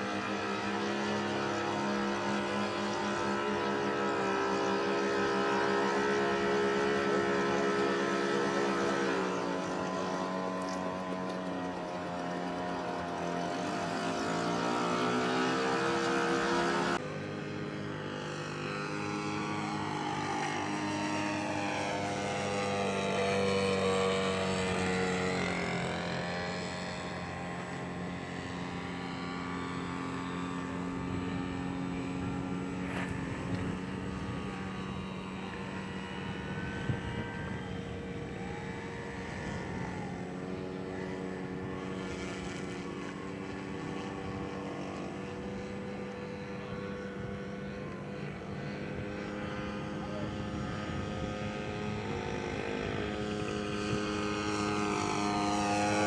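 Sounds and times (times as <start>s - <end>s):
model airplane engine in flight: 0.0s - 56.0s.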